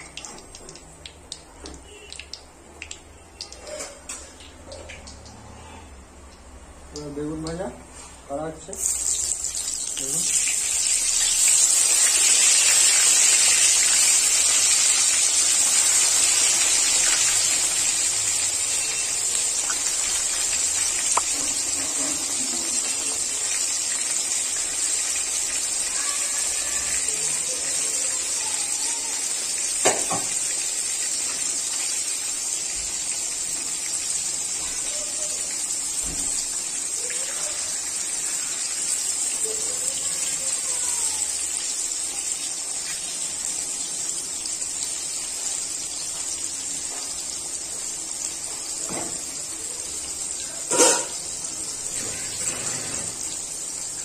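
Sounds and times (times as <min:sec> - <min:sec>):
eggplant sizzling in hot oil: 0:08.3 - 0:54.0.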